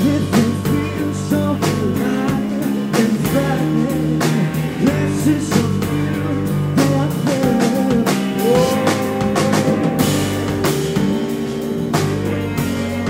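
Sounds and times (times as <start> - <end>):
bass guitar: 0.0 - 13.0
drum kit beat: 0.0 - 13.0
electric guitar bending notes: 0.0 - 13.0.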